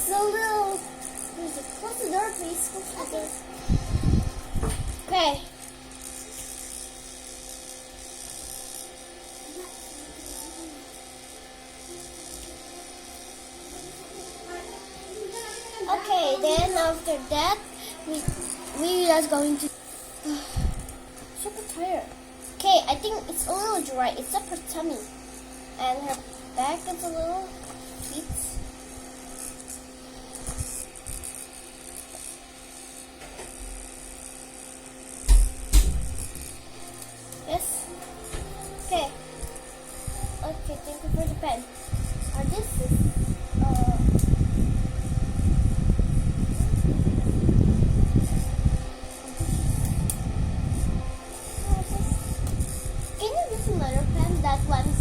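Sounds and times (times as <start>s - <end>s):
electric fan humming: 0.0s - 55.0s
thin high whine: 0.0s - 55.0s.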